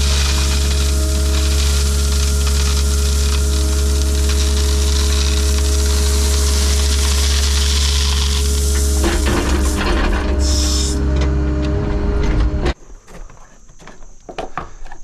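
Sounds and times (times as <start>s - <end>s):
machine engine running: 0.0s - 12.8s.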